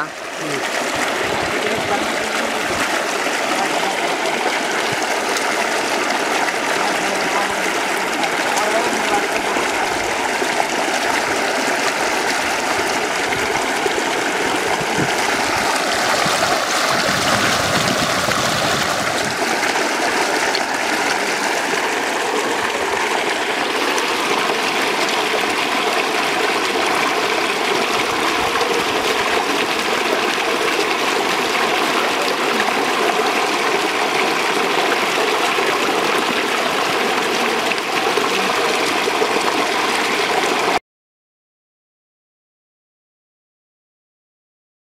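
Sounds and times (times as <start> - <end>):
running water rushing: 0.0 - 40.8.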